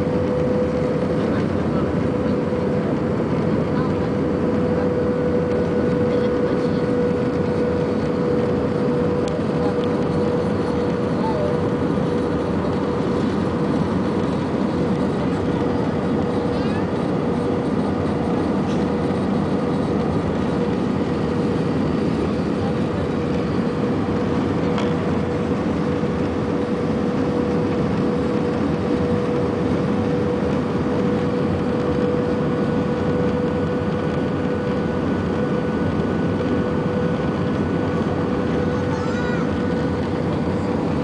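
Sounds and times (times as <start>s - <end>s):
airliner cabin engine drone: 0.0s - 41.0s.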